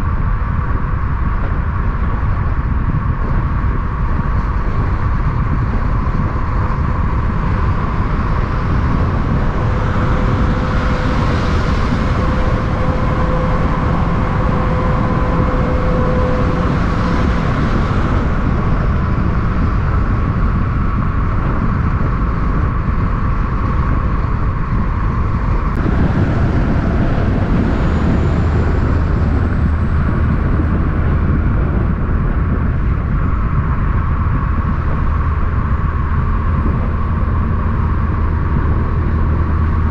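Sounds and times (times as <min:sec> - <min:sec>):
highway traffic rumble: 0:00.0 - 0:39.9
vehicles passing by: 0:00.0 - 0:39.9.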